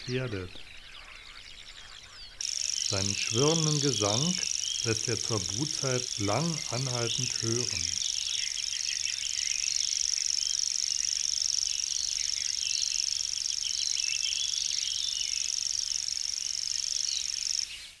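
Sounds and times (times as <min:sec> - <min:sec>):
bird whirring trill: 0:02.4 - 0:17.7.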